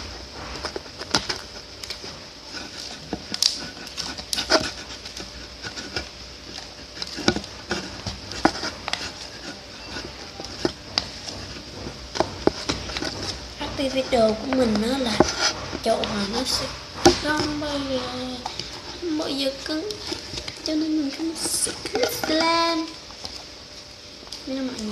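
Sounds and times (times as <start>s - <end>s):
slime squelching as stirred: 0.0s - 24.9s.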